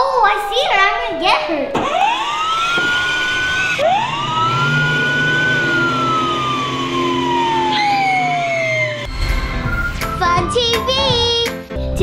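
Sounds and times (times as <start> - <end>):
siren wailing: 1.0 - 11.7.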